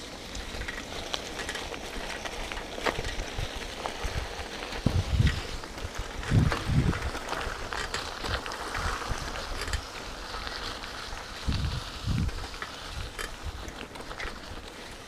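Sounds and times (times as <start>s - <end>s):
wind rumbling on microphone: 2.7s - 15.0s.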